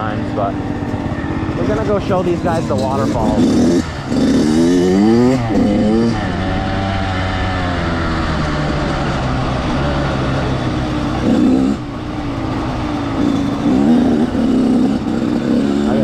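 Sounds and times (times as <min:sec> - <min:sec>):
dirt bike accelerating: 0:00.0 - 0:16.0.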